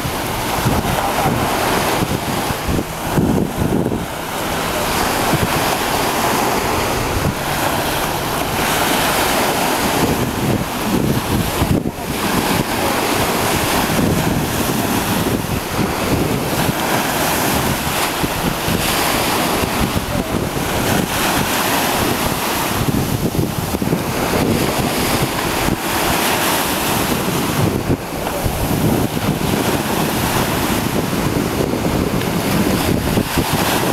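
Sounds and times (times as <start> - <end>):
small waves breaking: 0.0 - 33.9
wind buffeting microphone: 0.0 - 33.9.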